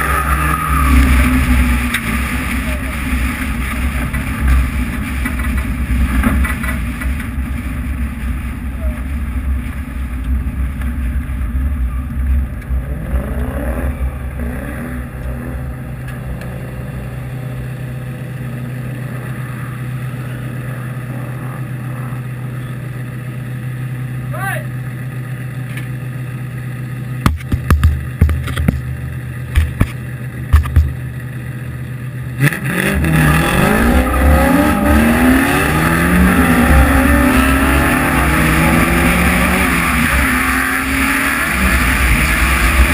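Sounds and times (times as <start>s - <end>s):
car engine: 0.0s - 42.9s.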